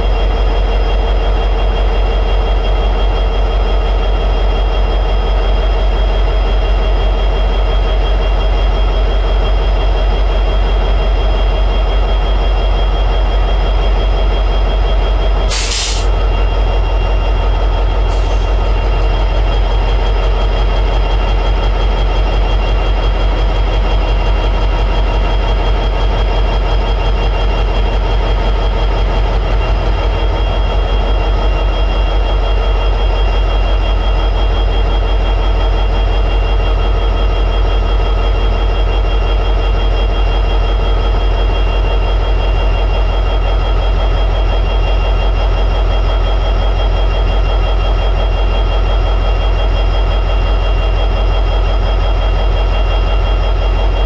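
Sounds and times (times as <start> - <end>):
diesel locomotive engine idling: 0.0 - 54.0.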